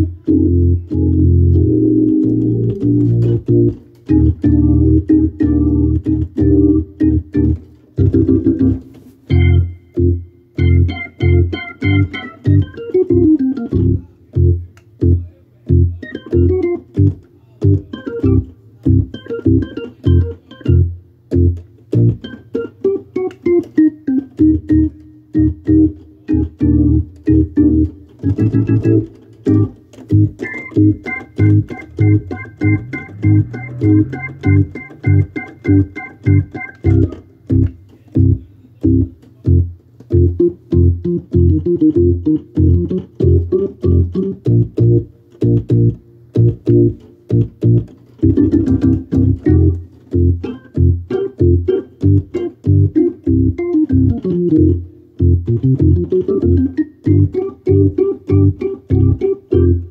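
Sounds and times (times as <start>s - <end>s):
pulsing bass line: 0.0s - 22.2s, 24.4s - 59.9s
hammond organ chord stabs: 0.0s - 59.9s.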